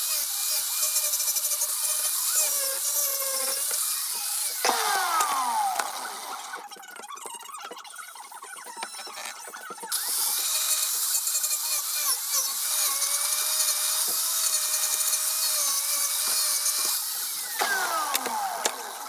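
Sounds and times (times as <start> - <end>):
angle grinder whining: 0.0 - 6.9, 8.7 - 19.0.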